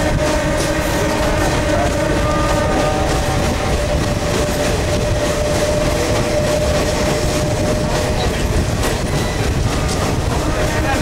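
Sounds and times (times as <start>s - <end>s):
constant train whine: 0.0s - 11.0s
train rolling rumble: 0.0s - 11.0s.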